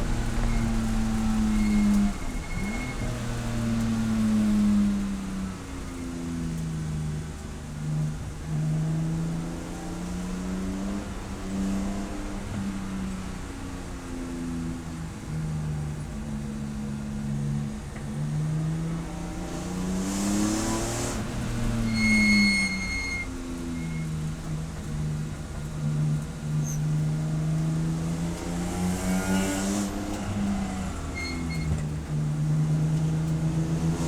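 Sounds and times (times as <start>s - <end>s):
race car engine: 0.0s - 34.0s.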